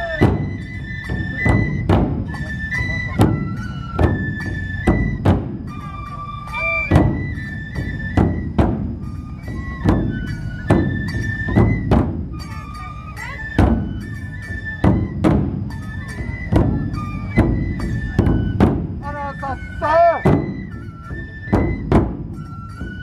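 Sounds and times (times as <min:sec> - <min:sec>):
bamboo flute melody: 0:00.0 - 0:23.0
large drums beating: 0:00.0 - 0:23.0.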